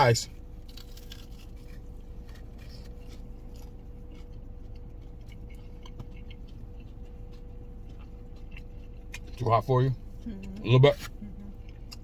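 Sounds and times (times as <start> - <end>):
low hum: 0.0 - 12.0
person eating crispy chicken: 0.0 - 12.0.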